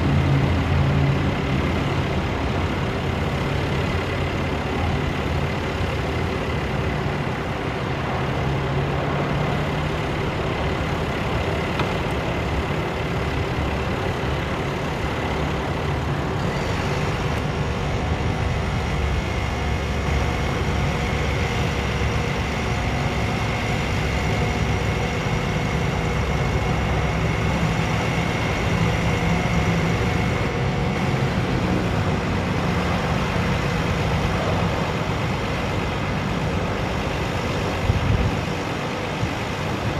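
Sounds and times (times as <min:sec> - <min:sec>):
diesel truck engine running: 0:00.0 - 0:39.9
high whine: 0:00.0 - 0:39.9.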